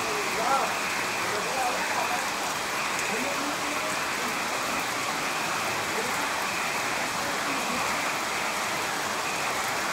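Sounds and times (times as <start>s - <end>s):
steady rain falling: 0.0s - 9.9s.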